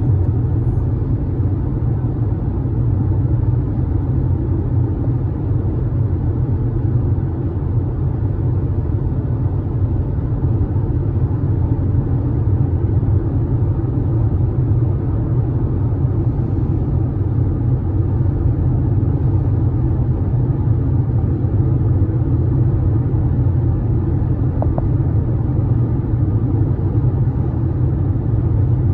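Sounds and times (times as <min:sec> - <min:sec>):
car driving at highway speed: 0:00.0 - 0:28.9.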